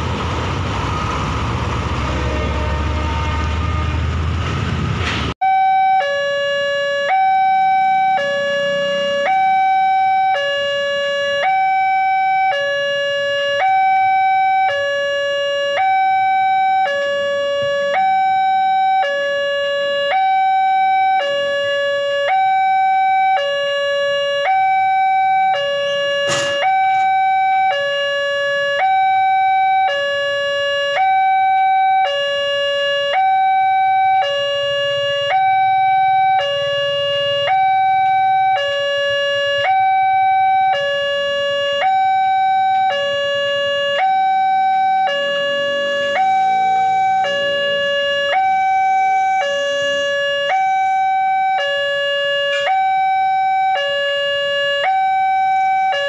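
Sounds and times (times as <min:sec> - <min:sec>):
truck road rumble: 0:00.0 - 0:56.0
two-tone crossing warning bell: 0:05.4 - 0:56.0.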